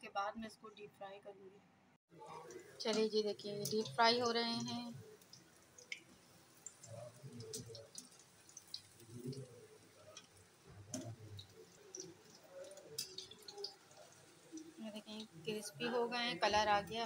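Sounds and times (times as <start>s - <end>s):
food deep-frying in oil: 2.1s - 17.0s.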